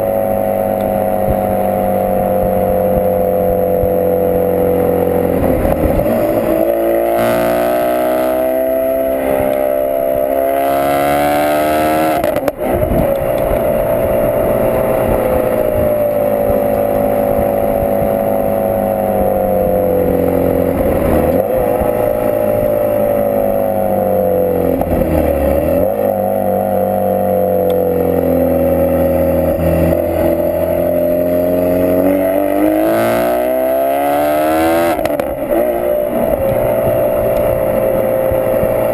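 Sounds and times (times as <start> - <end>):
loud car engine revving: 0.0 - 38.9.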